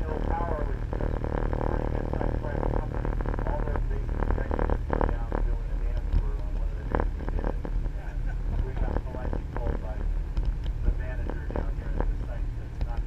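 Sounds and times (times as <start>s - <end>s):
boat engines droning: 0.0s - 13.0s
faint voices: 0.0s - 13.0s.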